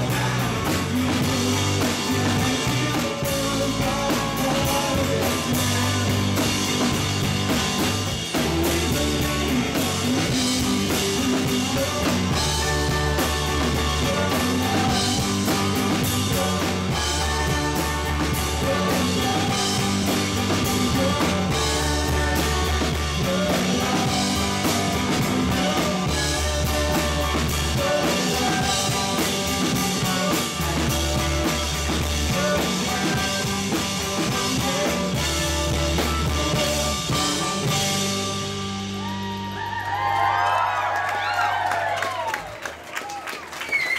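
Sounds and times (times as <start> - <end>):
drum kit: 0.0 - 42.6
bass guitar: 0.0 - 42.8
electric guitar: 0.0 - 42.8.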